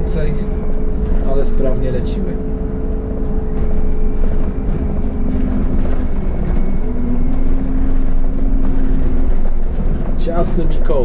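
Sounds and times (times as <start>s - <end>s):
bus engine and road rumble: 0.0s - 11.0s
whining drivetrain tone: 0.0s - 11.0s.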